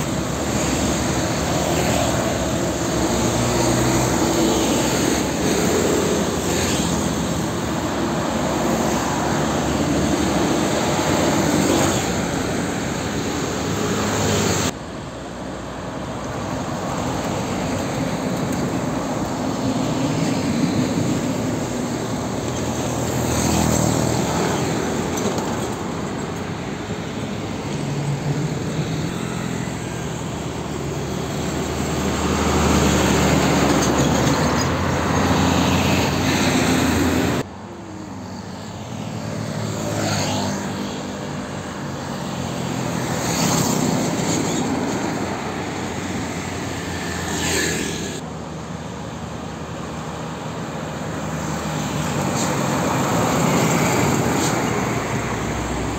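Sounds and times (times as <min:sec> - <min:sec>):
trucks and traffic passing: 0:00.0 - 0:55.9.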